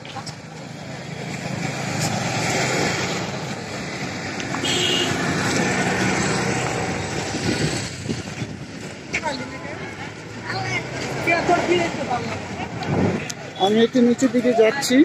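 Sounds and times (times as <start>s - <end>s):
traffic passing on city street: 0.0s - 15.0s.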